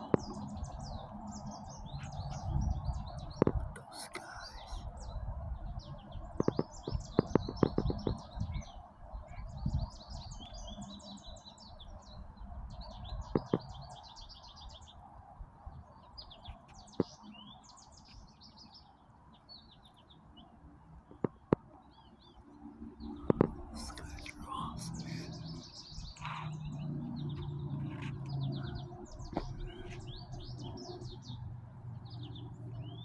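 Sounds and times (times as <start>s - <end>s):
songbirds chirping and singing: 0.0s - 33.0s.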